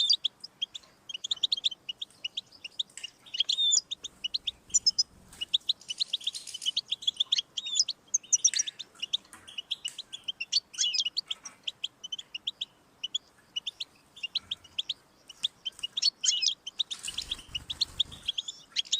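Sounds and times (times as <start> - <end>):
goldfinch twittering: 0.0 - 18.9.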